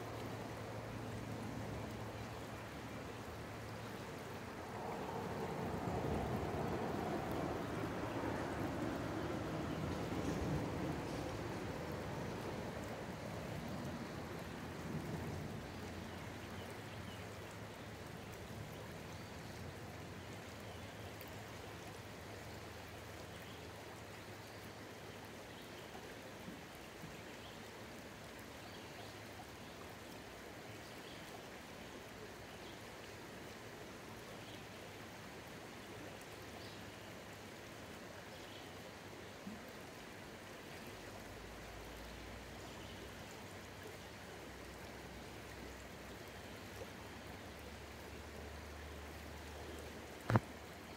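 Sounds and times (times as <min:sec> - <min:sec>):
river rushing over stones: 0:00.0 - 0:50.9.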